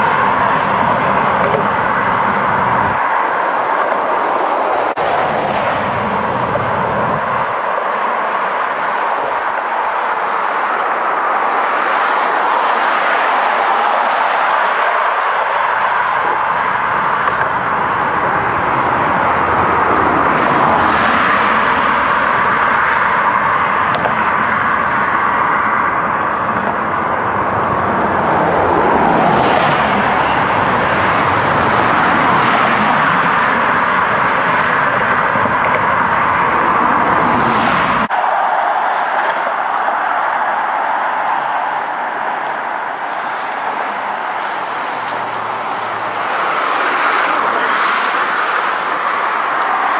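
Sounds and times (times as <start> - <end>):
freeway traffic drone: 0.0 - 49.9.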